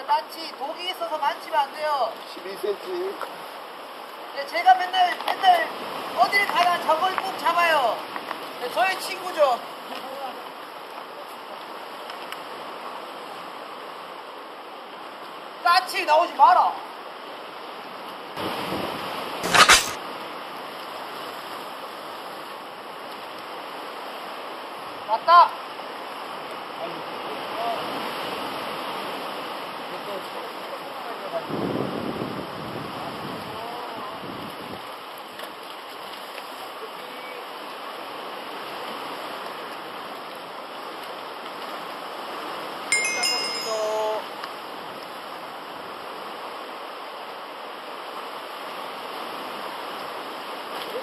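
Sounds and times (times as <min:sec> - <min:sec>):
sea surf: 0:00.0 - 0:51.0
wind: 0:00.0 - 0:51.0.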